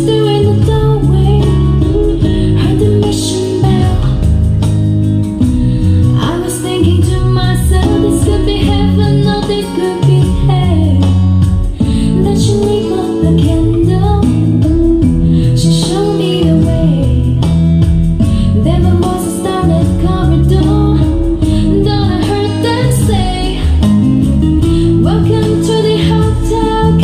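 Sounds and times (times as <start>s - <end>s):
woman singing: 0.0s - 4.6s, 5.6s - 27.0s
guitar: 0.0s - 27.0s
steady bass line: 0.0s - 27.0s.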